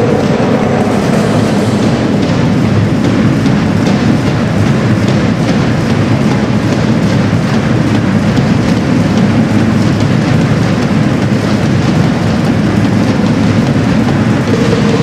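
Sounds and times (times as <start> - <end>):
heavy drum percussion rumble: 0.0 - 15.0.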